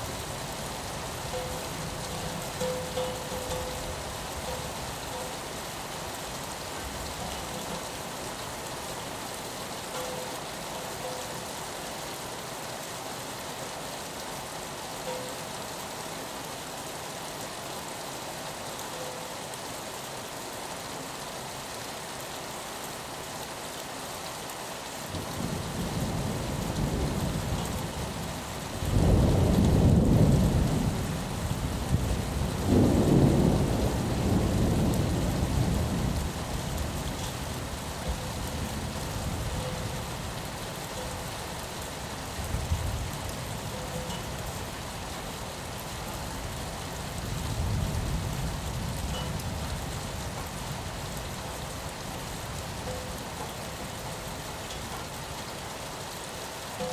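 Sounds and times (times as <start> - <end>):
steady rain: 0.0 - 56.9.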